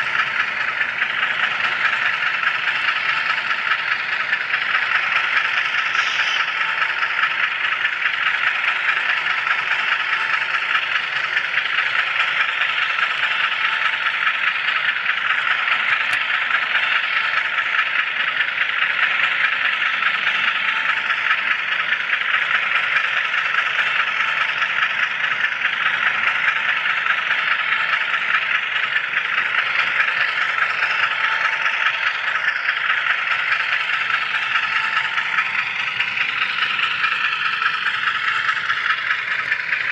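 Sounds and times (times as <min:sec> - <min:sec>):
model train car rattling on track: 0:00.0 - 0:39.9.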